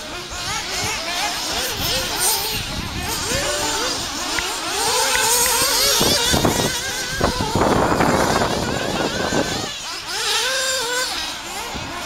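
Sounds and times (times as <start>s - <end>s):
rc buggy engines whining: 0.0s - 12.0s.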